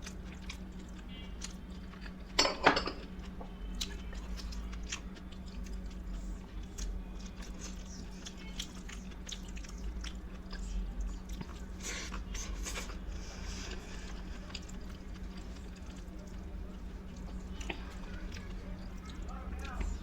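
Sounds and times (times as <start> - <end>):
wet chewing: 0.0 - 2.4, 3.2 - 20.0
crunching food: 3.0 - 20.0.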